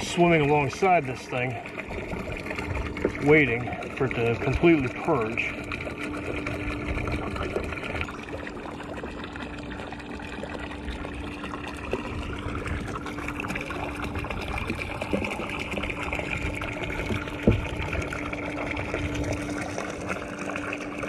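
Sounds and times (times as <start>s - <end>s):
bilge pump hum: 0.0s - 21.0s
water splashing and trickling: 0.0s - 21.0s.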